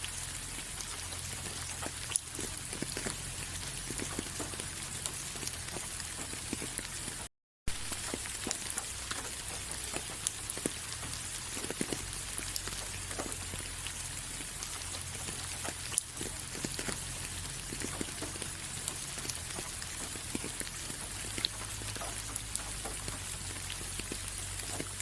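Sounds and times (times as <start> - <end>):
raindrops ticking on a surface: 0.0 - 25.0
steady rain hissing: 0.0 - 25.0.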